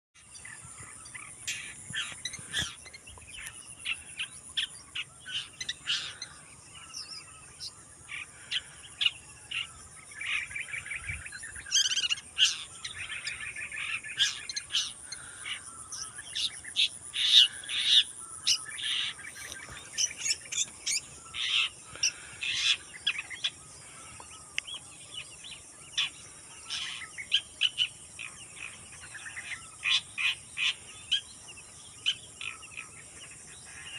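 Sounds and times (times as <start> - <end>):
shrike singing chirps and trills: 0.2 - 33.9.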